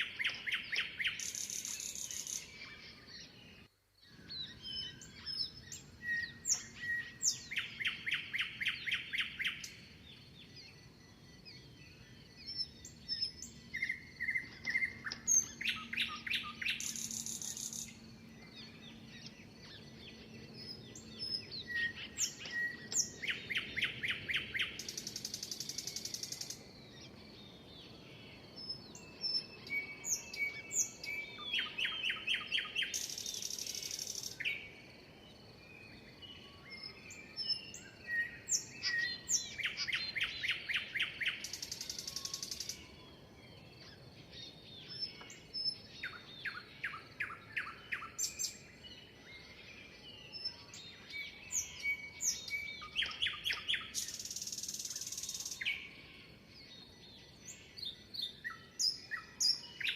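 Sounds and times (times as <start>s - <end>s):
bird trill: 0.0s - 10.0s, 11.1s - 34.8s, 36.2s - 56.4s
songbirds chirping and singing: 0.0s - 59.9s.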